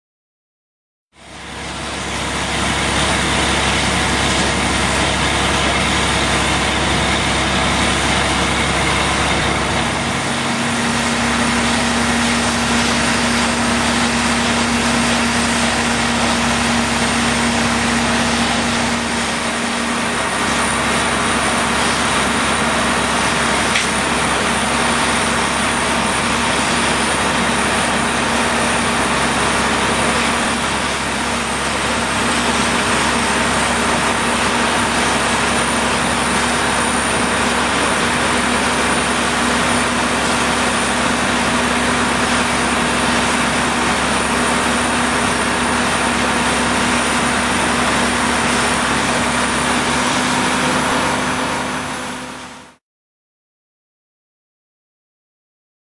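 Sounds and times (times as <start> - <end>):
engine running hum: 1.2 - 52.8
fire hose spraying water: 1.2 - 52.8.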